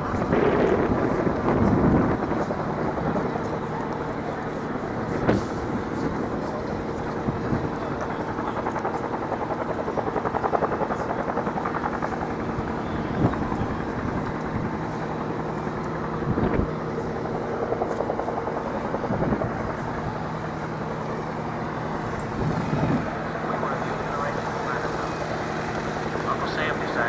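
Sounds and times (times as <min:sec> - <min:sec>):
helicopter rotor beat: 0:00.0 - 0:27.0
helicopter turbine hum: 0:00.0 - 0:27.0.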